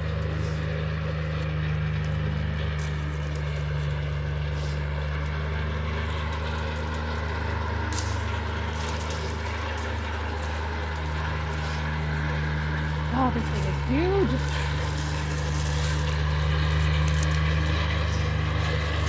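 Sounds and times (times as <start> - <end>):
low mechanical hum: 0.0 - 19.0
faint rustles: 2.0 - 19.0.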